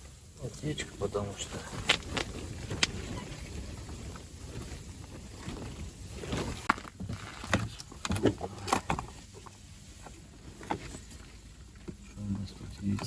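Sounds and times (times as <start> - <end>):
faint low wind rumble: 0.0 - 13.0.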